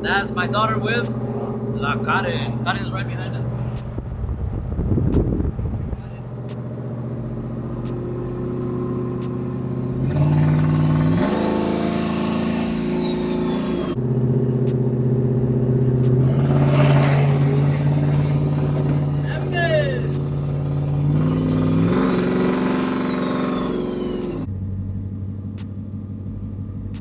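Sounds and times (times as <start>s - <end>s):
truck engine heard from cab: 0.0s - 27.0s.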